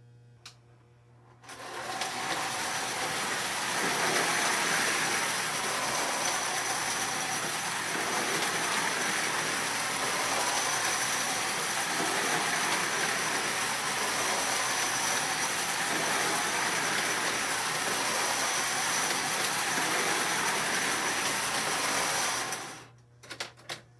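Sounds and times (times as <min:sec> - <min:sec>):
toy train motor whirring: 0:01.4 - 0:22.9
toy train wheel rattle: 0:01.5 - 0:22.9.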